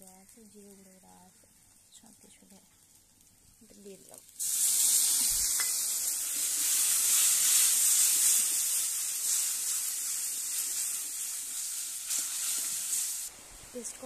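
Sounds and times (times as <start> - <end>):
spice paste sizzling in hot oil: 0.0 - 14.0.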